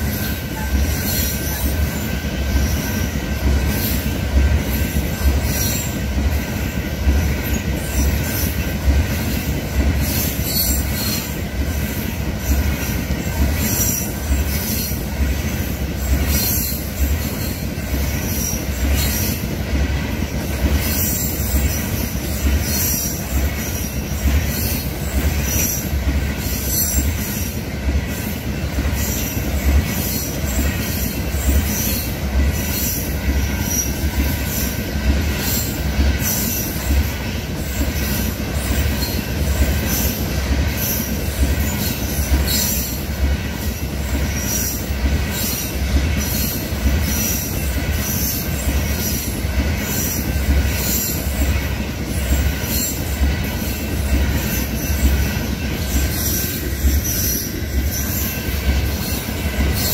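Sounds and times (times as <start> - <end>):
train wheels rumbling on rails: 0.0 - 59.9
train wheels screeching: 0.0 - 59.9.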